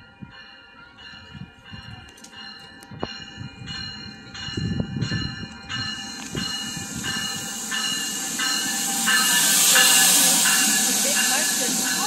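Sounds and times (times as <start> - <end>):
bell ringing: 0.0 - 12.0
train wheels rushing on rail: 1.2 - 12.0.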